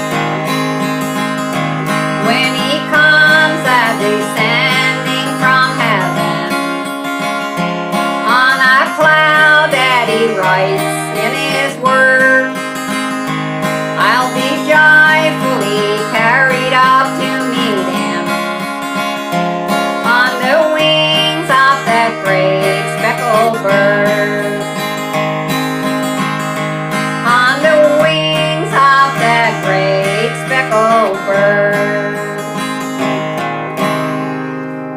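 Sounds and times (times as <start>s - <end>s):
acoustic guitar playing: 0.0s - 34.9s.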